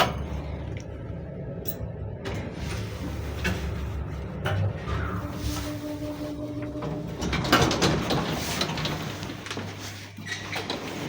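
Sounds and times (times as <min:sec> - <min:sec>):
elevator hum: 0:00.0 - 0:11.0
elevator mechanism clattering: 0:00.0 - 0:11.0.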